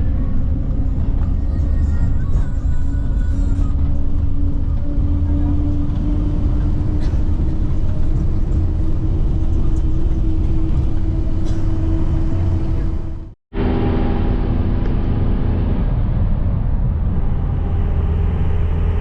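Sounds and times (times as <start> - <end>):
constant hum: 0.0 - 19.0
vehicle rumble from inside: 0.0 - 19.0.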